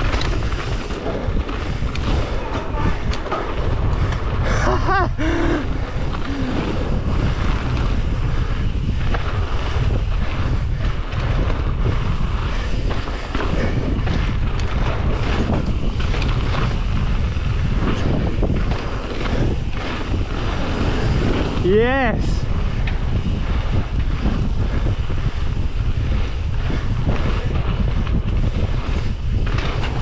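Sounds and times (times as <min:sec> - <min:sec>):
bike clattering over bumps: 0:00.0 - 0:30.0
bike tyres rolling on gravel: 0:00.0 - 0:30.0
wind buffeting microphone: 0:00.0 - 0:30.0.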